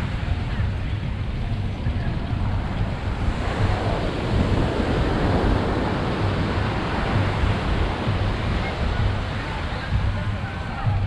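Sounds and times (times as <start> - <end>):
ocean surf on beach: 0.0 - 11.0
wind rumbling on microphone: 0.0 - 11.0.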